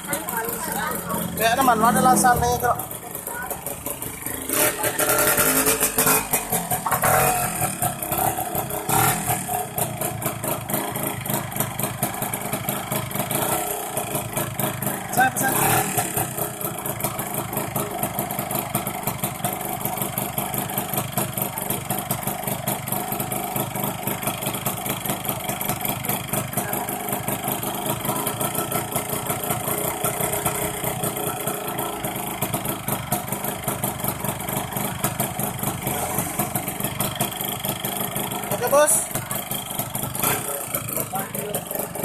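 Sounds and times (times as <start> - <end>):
two-stroke engine idling: 0.0 - 42.0.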